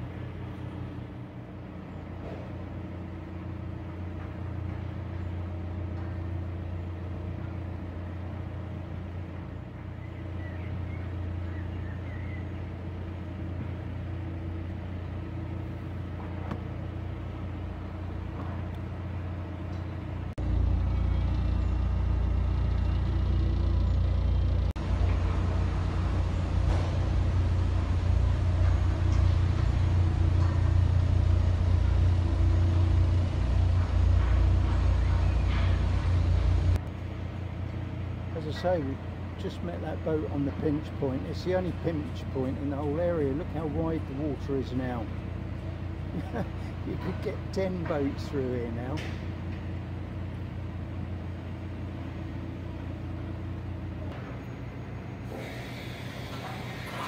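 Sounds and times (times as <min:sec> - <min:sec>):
deep engine rumble: 0:00.0 - 0:57.0
diesel engine humming: 0:00.0 - 0:57.0.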